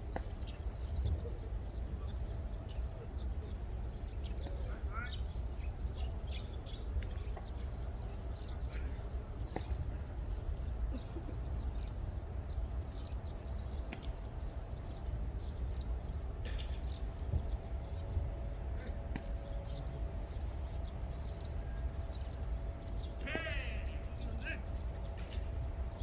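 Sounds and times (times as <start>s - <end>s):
wind rumble on microphone: 0.0s - 23.3s.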